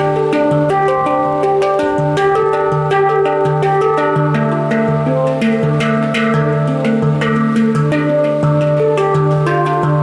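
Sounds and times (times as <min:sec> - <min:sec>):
handpan notes ringing: 0:00.0 - 0:10.0.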